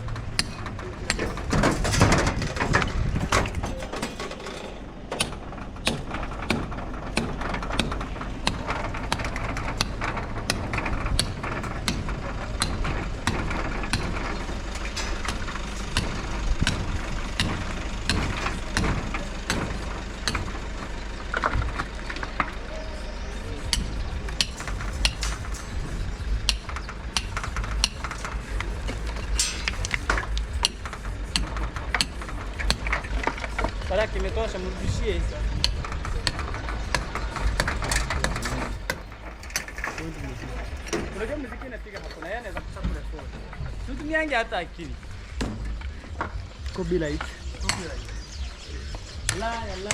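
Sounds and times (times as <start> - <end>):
construction knocks and clatter: 0.0 - 49.9
steady low hum: 0.0 - 49.9.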